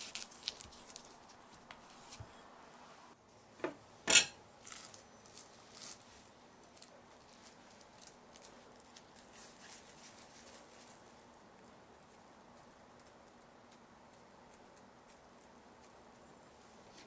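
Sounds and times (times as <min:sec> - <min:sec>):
hands kneading dough: 0:00.0 - 0:02.8, 0:04.6 - 0:17.0.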